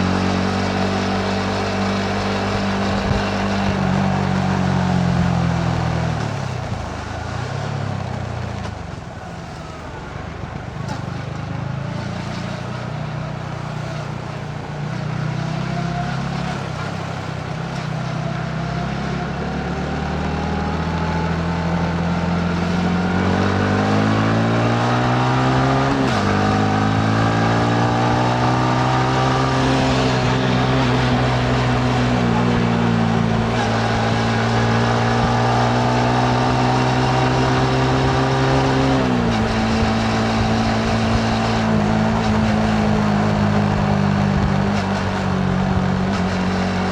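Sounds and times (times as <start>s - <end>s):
motorcycle engine accelerating: 0.0s - 46.9s
wind and road noise: 0.0s - 46.9s.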